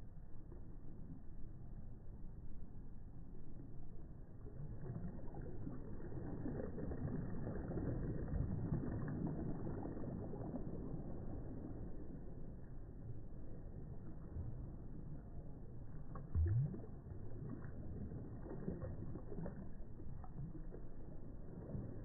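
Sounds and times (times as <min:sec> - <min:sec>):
small waves breaking softly: 0:00.0 - 0:22.0.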